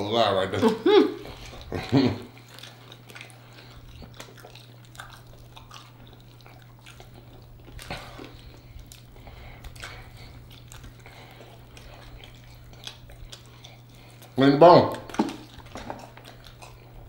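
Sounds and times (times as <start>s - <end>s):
steady low hum: 0.0s - 17.0s
wet chewing and mouth clicks: 0.5s - 17.0s.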